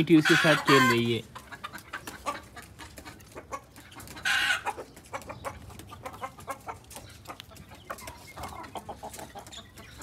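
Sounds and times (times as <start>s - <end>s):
chickens clucking: 0.0s - 10.0s
chicken squawk: 0.1s - 10.0s.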